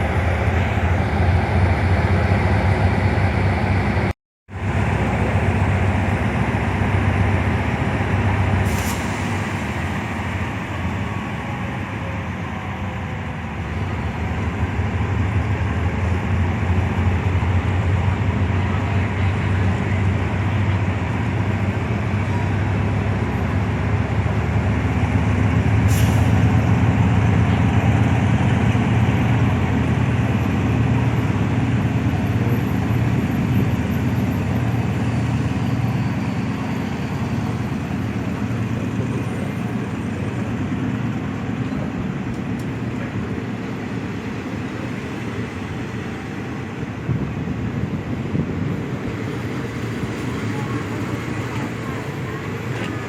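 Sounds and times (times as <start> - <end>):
heavy vehicle engine humming: 0.0 - 53.0.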